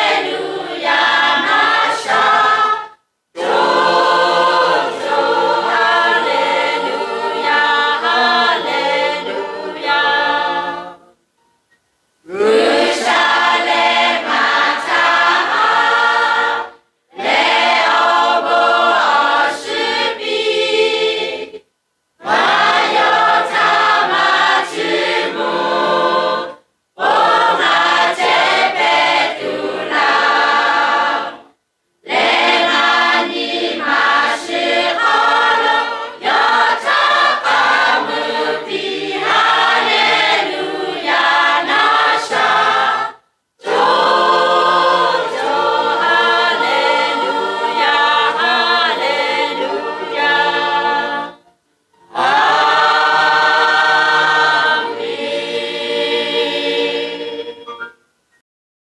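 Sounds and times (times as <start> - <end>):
choir singing unaccompanied: 0.0 - 11.2, 12.2 - 58.0.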